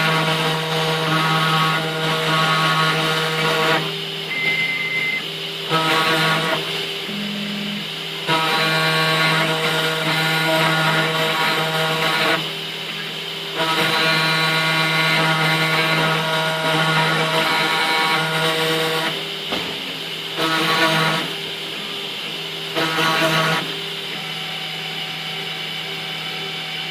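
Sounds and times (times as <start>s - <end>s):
milling machine motor whine: 0.0s - 26.9s.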